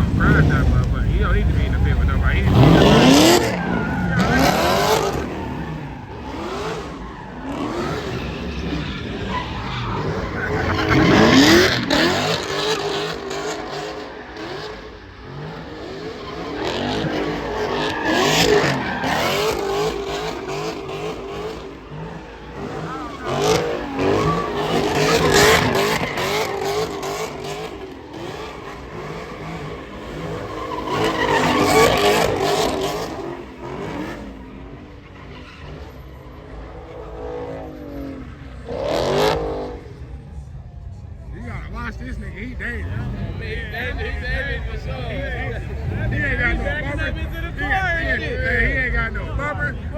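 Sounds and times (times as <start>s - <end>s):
tyres squealing and skidding: 0.0s - 40.4s, 41.3s - 49.9s
car engines revving hard: 0.0s - 49.9s.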